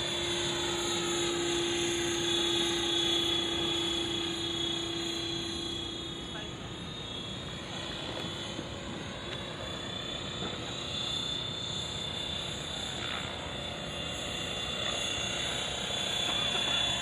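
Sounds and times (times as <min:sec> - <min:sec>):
model helicopter engine and rotor hum: 0:00.0 - 0:17.0
thin high whine: 0:00.0 - 0:17.0.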